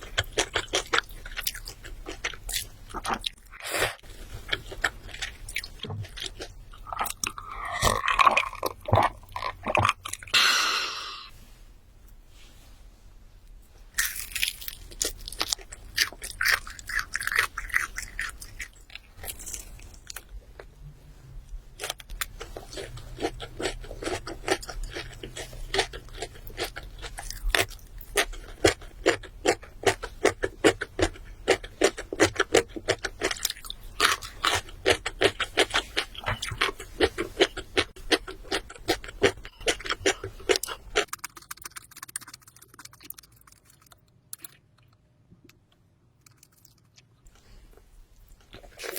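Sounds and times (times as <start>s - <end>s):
chewing crunchy food: 0.0s - 10.3s, 14.0s - 20.7s, 21.8s - 48.9s.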